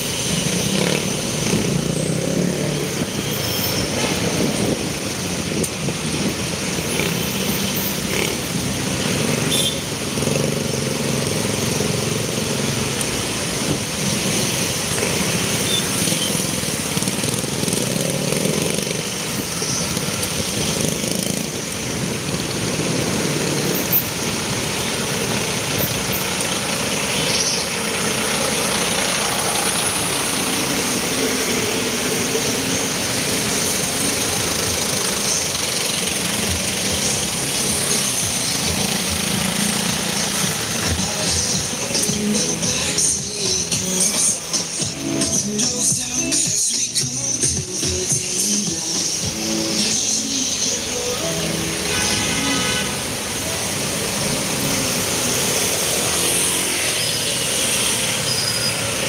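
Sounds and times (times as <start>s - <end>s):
road noise: 0.0s - 59.0s
vehicle engines running: 0.0s - 59.0s.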